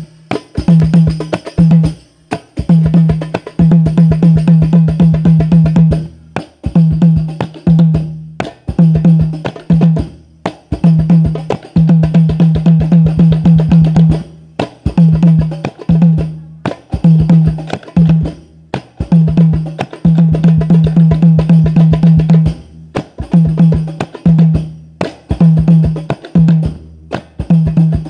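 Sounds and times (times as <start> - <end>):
deep bass drum notes: 0.0 - 28.0.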